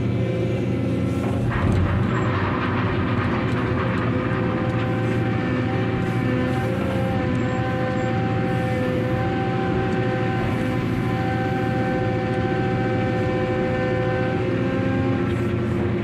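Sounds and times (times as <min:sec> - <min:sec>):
diesel engine drone: 0:00.0 - 0:16.0
high hydraulic whine: 0:00.7 - 0:16.0.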